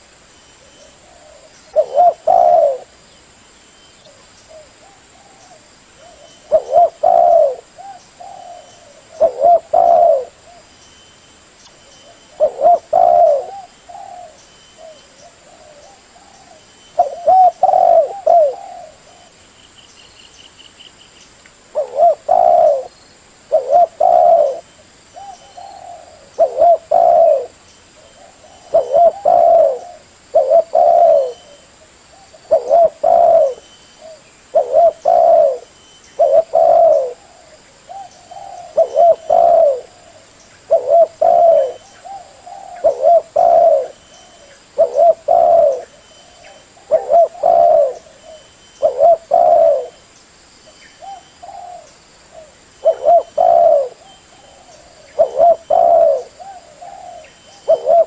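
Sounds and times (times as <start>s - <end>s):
dove cooing: 0.6s - 3.0s, 4.1s - 10.7s, 12.0s - 19.4s, 21.7s - 22.9s, 23.5s - 50.0s, 51.0s - 58.0s.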